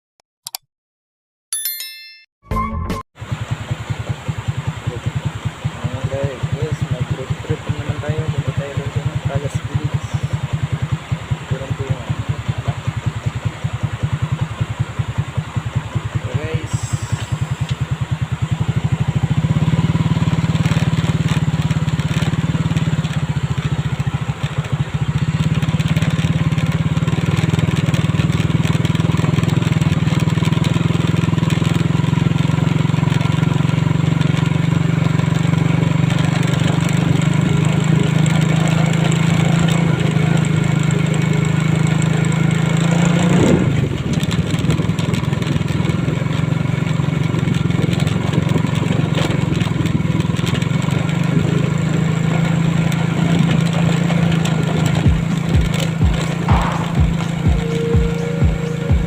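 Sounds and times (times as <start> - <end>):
motorcycle engine running: 3.2 - 59.0
road and air noise: 3.2 - 59.0.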